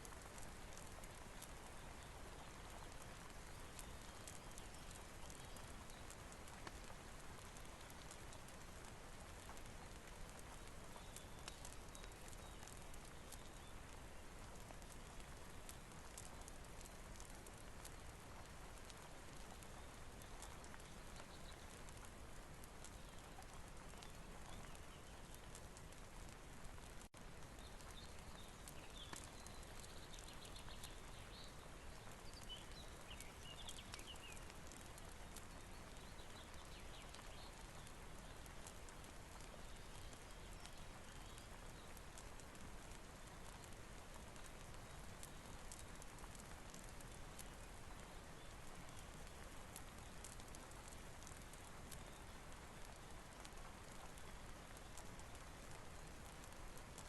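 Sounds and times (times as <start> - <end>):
faint steady rain: 0.0 - 57.0
small ticks and pops: 0.0 - 57.0.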